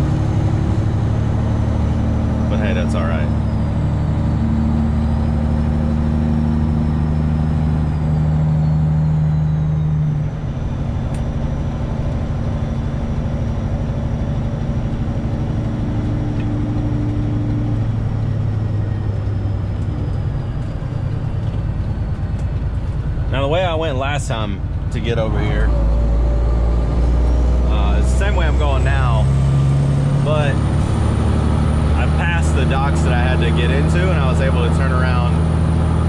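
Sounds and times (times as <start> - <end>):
truck diesel engine running: 0.0 - 36.0.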